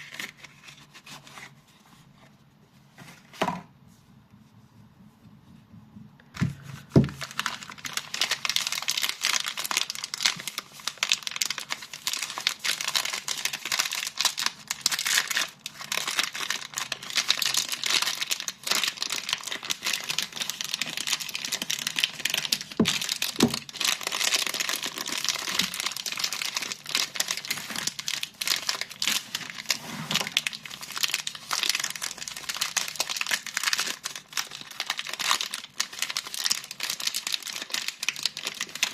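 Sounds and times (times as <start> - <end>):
packaging crinkling and tearing: 0.0 - 1.5, 6.8 - 38.9.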